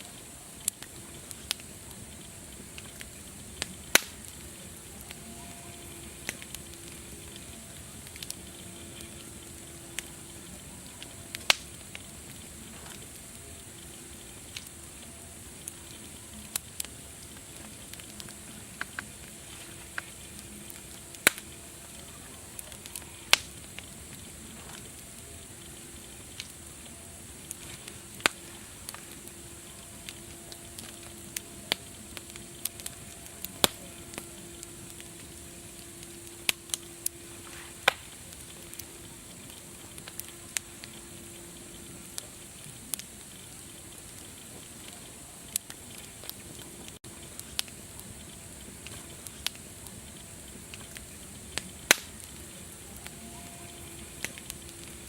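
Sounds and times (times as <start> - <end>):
high-pitched hiss: 0.0 - 55.0
wood fire crackling and popping: 0.0 - 55.0.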